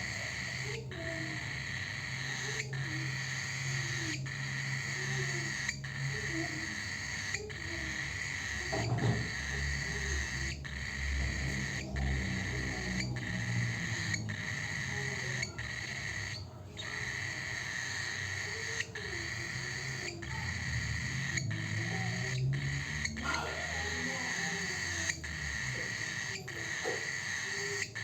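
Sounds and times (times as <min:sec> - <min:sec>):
low hooting bird calls: 0:00.0 - 0:28.0.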